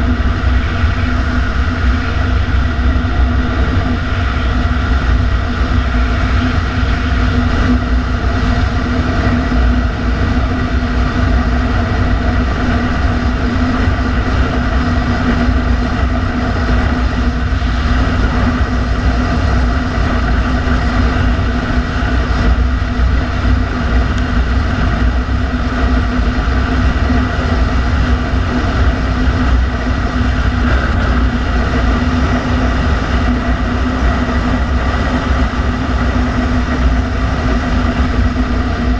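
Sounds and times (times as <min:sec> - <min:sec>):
scooter engine droning: 0:00.0 - 0:38.9
wind buffeting microphone: 0:00.0 - 0:38.9.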